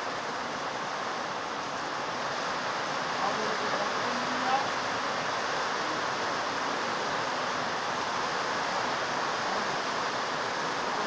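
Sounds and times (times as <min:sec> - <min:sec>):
heavy rain in wind: 0:00.0 - 0:11.0.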